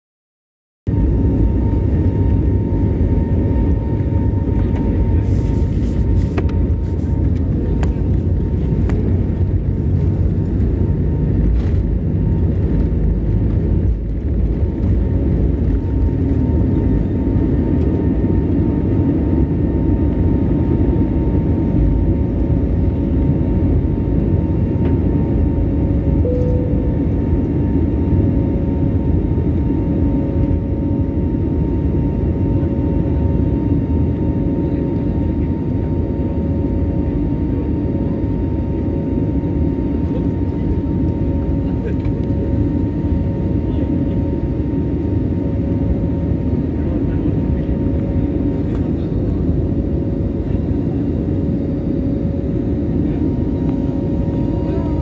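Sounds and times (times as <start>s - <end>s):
faint engine whine: 0.9s - 55.0s.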